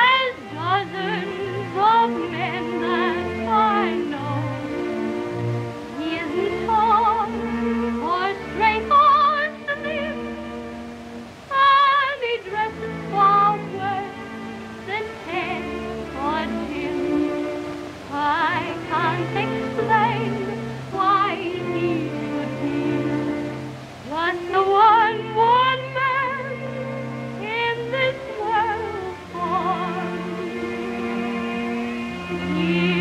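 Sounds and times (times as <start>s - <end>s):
woman singing with vibrato: 0.0s - 5.2s, 5.8s - 10.8s, 11.4s - 33.0s
soft instrumental accompaniment: 0.0s - 33.0s.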